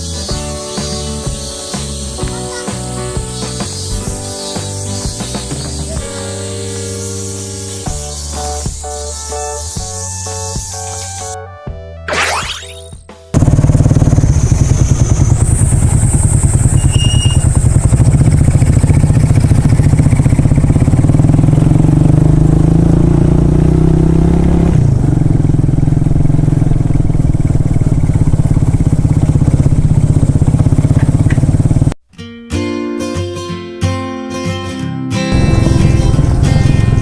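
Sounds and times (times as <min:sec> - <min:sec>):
motorcycle engine running: 0:00.0 - 0:11.3, 0:13.3 - 0:32.0, 0:35.3 - 0:37.0.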